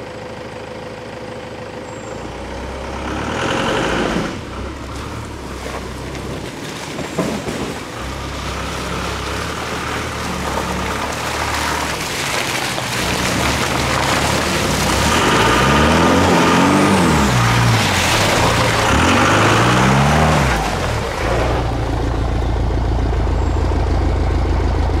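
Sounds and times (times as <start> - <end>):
pickup truck engines revving: 2.3 - 22.4.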